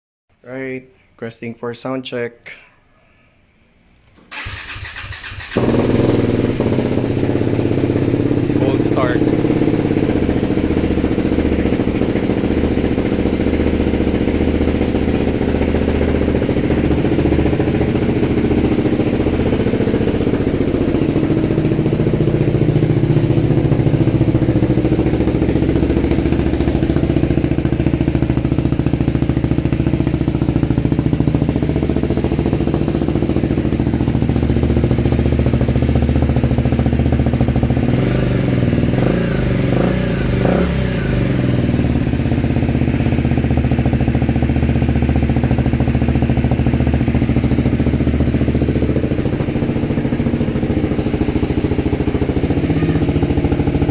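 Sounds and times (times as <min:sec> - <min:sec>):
motorcycle engine idling: 0:04.3 - 0:53.9.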